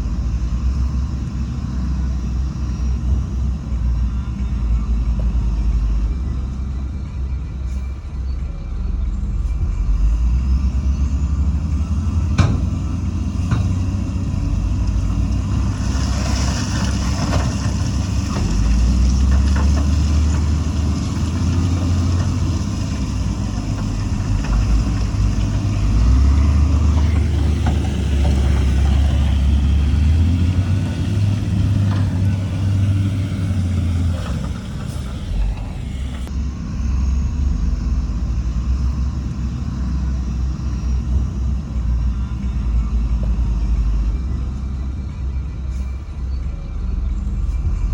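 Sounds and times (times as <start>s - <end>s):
diesel machinery engine running: 0.0s - 47.9s.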